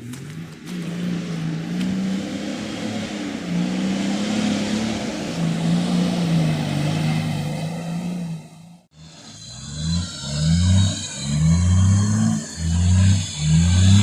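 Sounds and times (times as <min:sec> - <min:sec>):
off-road vehicle engine under load: 0:00.0 - 0:14.0.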